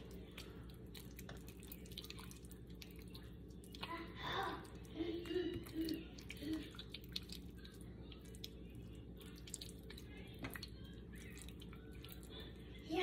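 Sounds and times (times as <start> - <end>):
wet squishing of raw chicken: 0.0 - 12.8.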